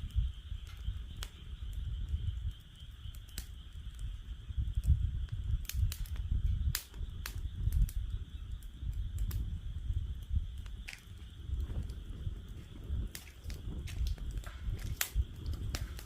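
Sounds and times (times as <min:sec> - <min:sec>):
frogs chorus: 0:00.0 - 0:16.0
wood fire crackling and popping: 0:00.0 - 0:16.0.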